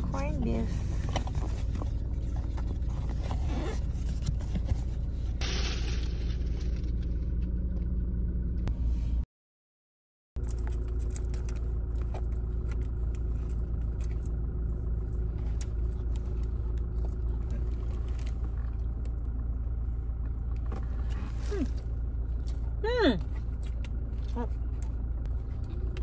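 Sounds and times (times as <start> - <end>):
vehicle interior rumble: 0.0 - 9.2, 10.4 - 26.0.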